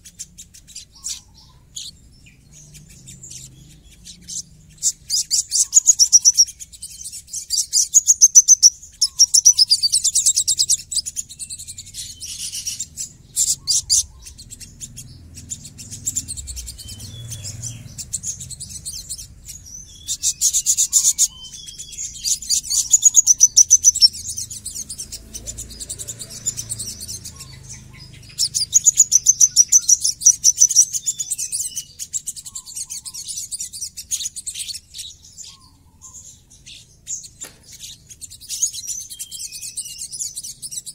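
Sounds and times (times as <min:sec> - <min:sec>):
bird chatter: 0:00.0 - 0:40.9
bird high-pitched trills: 0:00.0 - 0:40.9.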